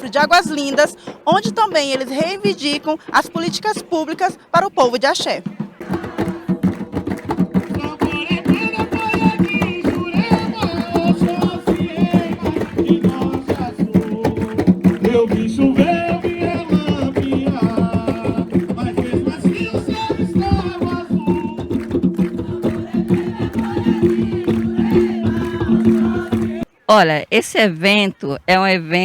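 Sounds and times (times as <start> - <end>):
fast hand drum beats: 0.0 - 26.7
voices chanting: 0.0 - 29.0.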